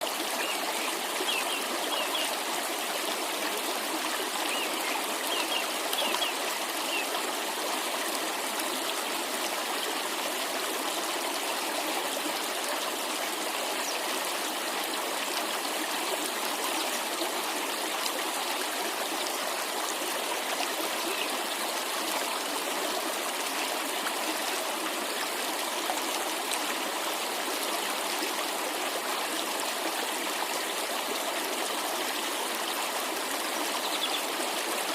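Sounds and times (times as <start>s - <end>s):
water cascade rushing: 0.3s - 31.2s.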